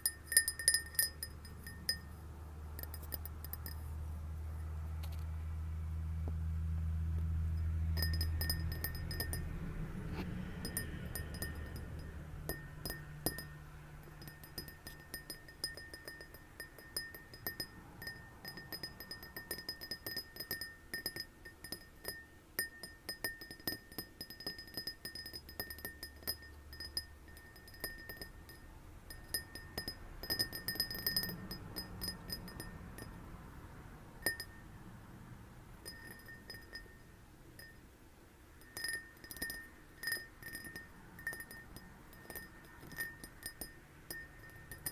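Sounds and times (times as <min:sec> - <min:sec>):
glass tapping and ringing: 0:00.0 - 0:02.2, 0:02.8 - 0:03.9, 0:07.5 - 0:33.2, 0:34.2 - 0:34.7, 0:35.7 - 0:37.9, 0:38.5 - 0:44.9.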